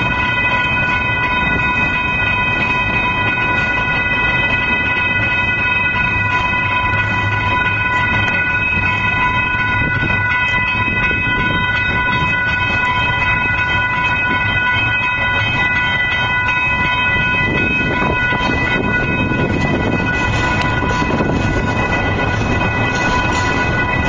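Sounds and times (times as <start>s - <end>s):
crossing warning bell ringing: 0.0s - 24.0s
freight train wheels rumbling: 0.0s - 24.0s.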